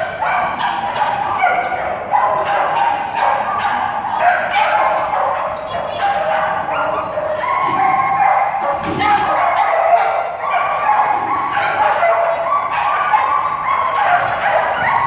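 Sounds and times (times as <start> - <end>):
dog barking and yipping: 0.0 - 15.0.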